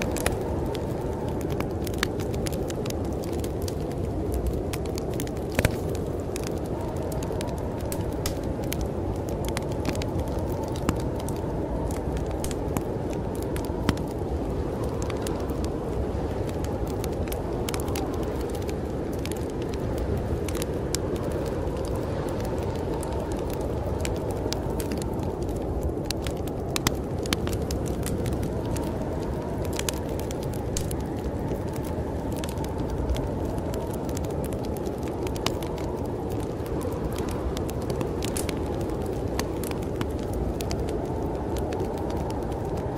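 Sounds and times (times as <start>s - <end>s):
snowstorm wind rumbling: 0.0s - 42.9s
wood fire crackling and popping: 0.0s - 42.9s.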